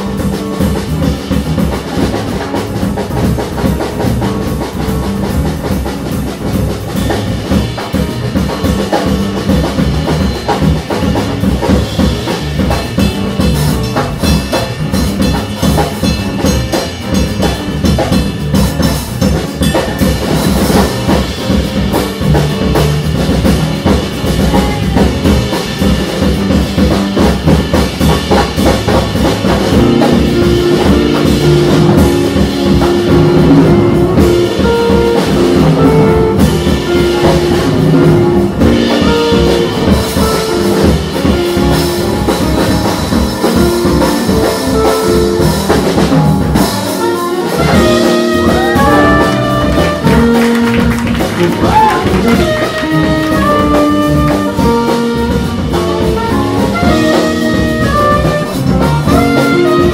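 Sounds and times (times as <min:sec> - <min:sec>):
band instruments holding pitched notes: 0:00.0 - 0:59.9
jazz drum kit played busily: 0:00.0 - 0:59.9.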